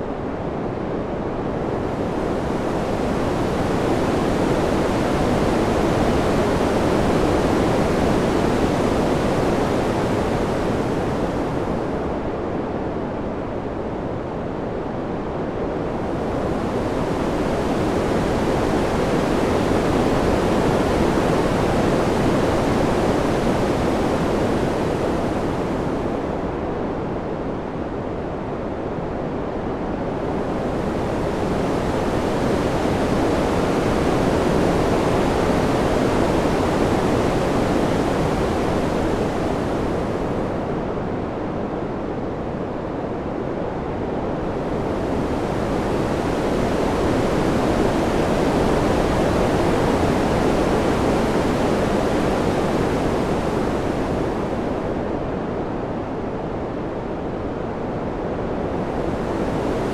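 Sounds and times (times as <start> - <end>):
steady wind: 0.0 - 59.9.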